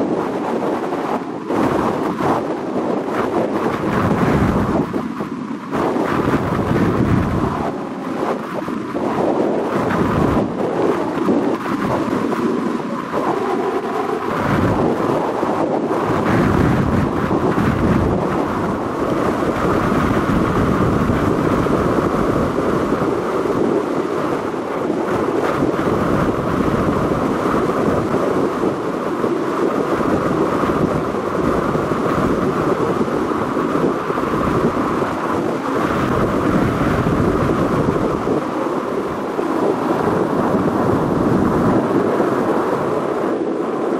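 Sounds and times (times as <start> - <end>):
boat engine noise: 0.0 - 43.9
water: 0.0 - 43.9
wind buffeting microphone: 0.0 - 43.9.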